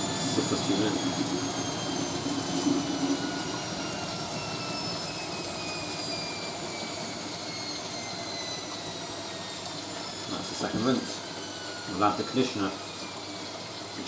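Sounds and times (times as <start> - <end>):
washing machine motor whine: 0.0 - 14.0.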